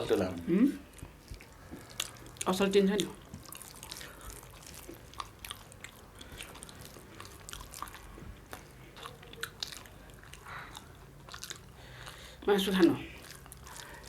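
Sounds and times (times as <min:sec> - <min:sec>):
person chewing food: 0:00.1 - 0:14.0.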